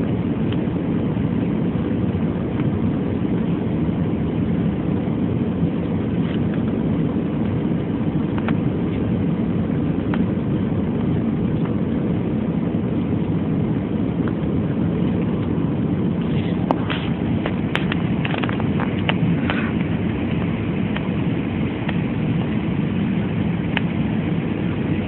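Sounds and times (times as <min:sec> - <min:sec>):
airliner cabin engine rumble: 0:00.0 - 0:25.0.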